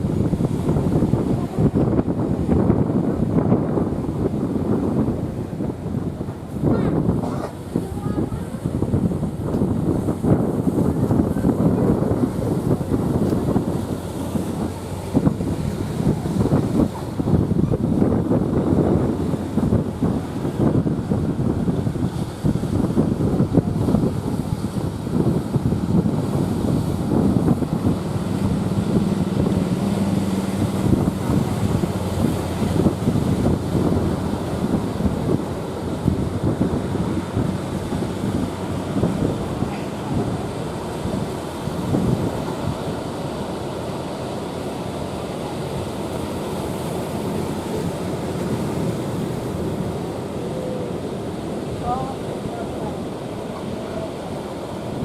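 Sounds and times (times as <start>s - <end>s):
heavy surf rumble: 0.0s - 55.0s
wind buffeting microphone: 0.0s - 55.0s.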